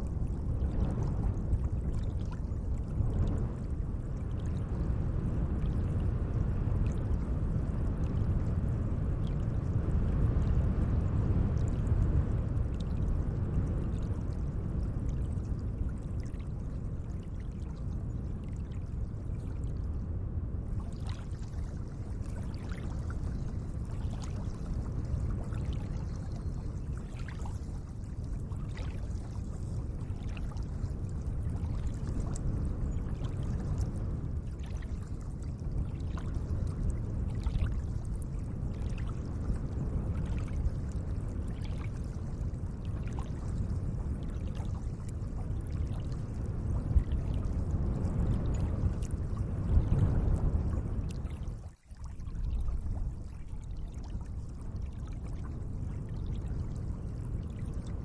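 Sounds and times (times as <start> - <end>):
small water splashes and drips: 0.0 - 4.7, 11.5 - 20.0, 20.6 - 58.0.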